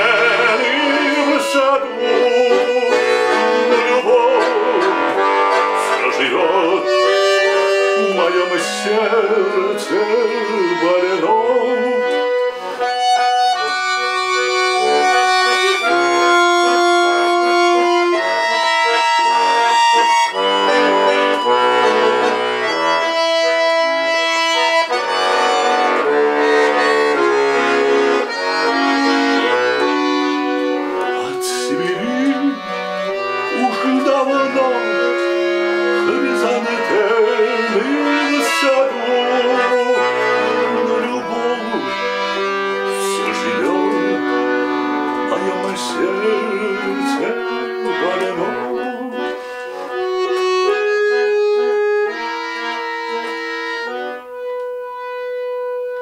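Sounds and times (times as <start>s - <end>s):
accordion playing slow melody: 0.0s - 56.0s.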